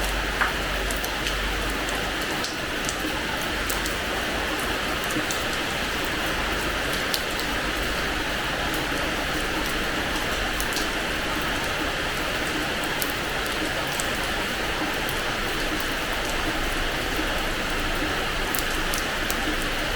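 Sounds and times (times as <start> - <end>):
rain falling on a floor: 0.0 - 19.9.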